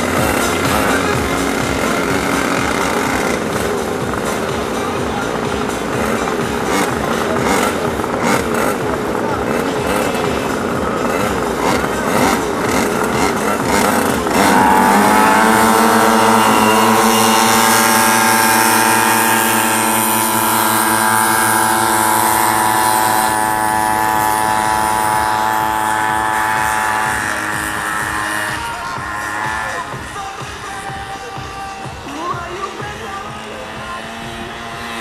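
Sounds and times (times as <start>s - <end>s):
small engines revving: 0.0s - 35.0s.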